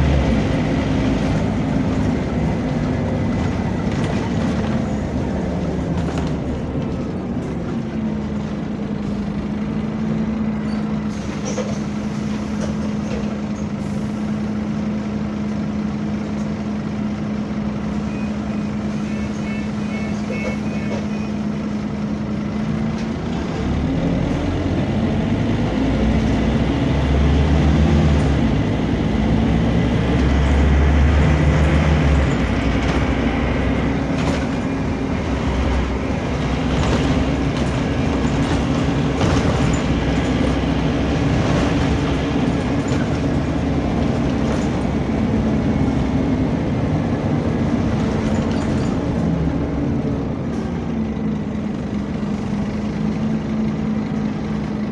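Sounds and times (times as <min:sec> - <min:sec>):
bus engine and cooling fan drone: 0:00.0 - 0:54.9.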